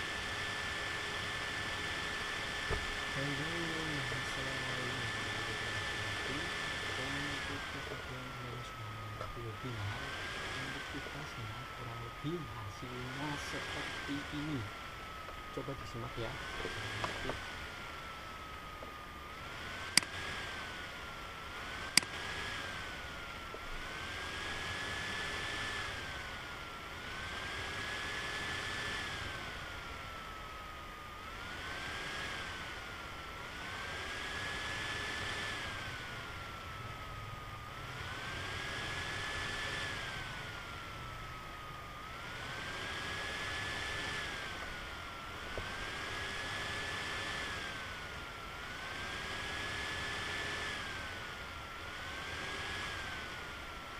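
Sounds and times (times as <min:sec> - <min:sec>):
lathe machining whine: 0:00.0 - 0:53.9.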